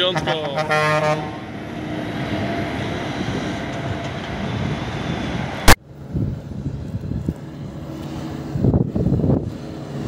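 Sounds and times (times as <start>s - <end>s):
tyre noise on road: 1.2s - 10.0s
wind buffeting microphone: 1.4s - 10.0s.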